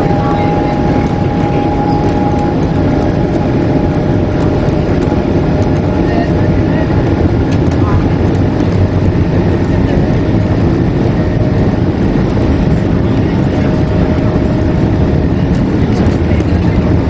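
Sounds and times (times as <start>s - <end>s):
faint engine whine: 0.0s - 17.0s
jet engines rumbling in cabin: 0.0s - 17.0s.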